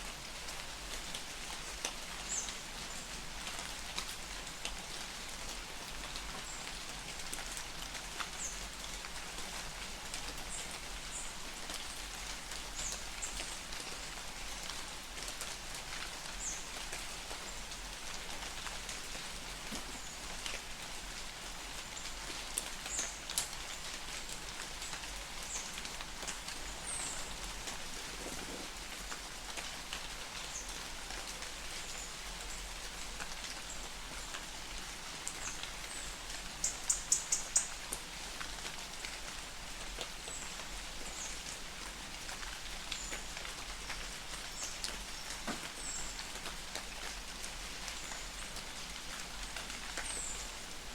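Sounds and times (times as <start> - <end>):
light rain falling: 0.0 - 50.9.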